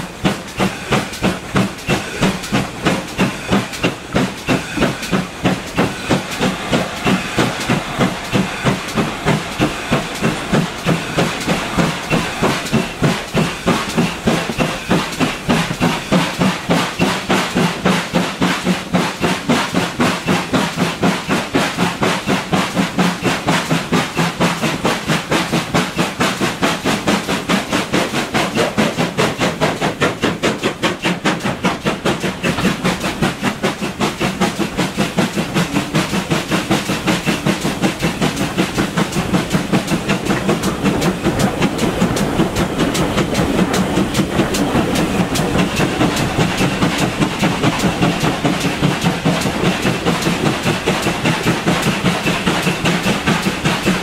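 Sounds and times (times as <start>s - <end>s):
steam locomotive exhaust beats: 0.0s - 54.0s
wheel and rail noise: 0.0s - 54.0s.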